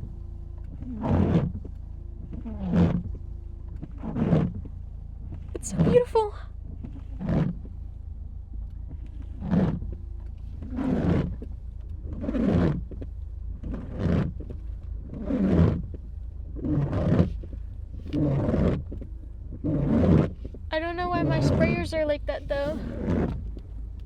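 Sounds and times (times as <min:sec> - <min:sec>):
low steady hum: 0:00.0 - 0:24.0
windshield wipers swishing: 0:00.5 - 0:24.0.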